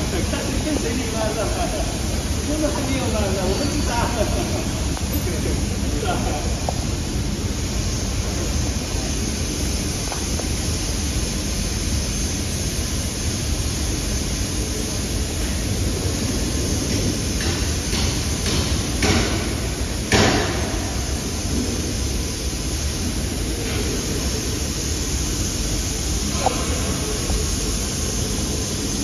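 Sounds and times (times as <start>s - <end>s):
workshop background noise: 0.0s - 29.0s.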